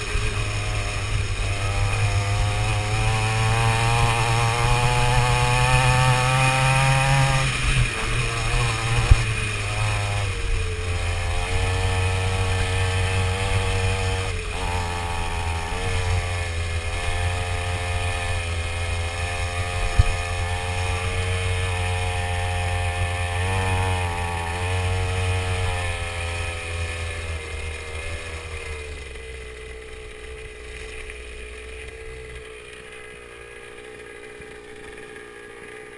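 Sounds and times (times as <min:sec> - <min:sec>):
two-stroke dirt bike engine revving: 0:00.0 - 0:35.9.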